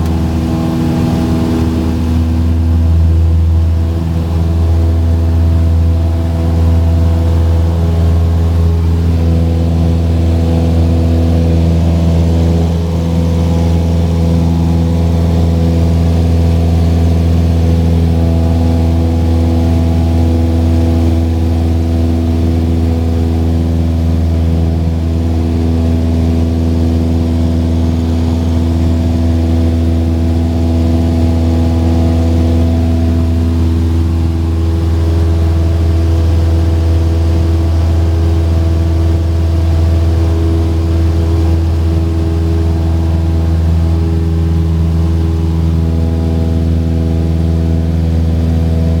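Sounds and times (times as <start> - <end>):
airplane engine and propeller drone: 0.0 - 49.0.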